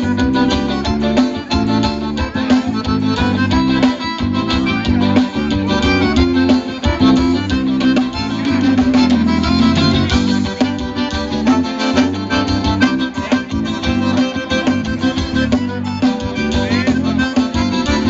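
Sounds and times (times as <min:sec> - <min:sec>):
live band through stage speakers: 0:00.0 - 0:18.0.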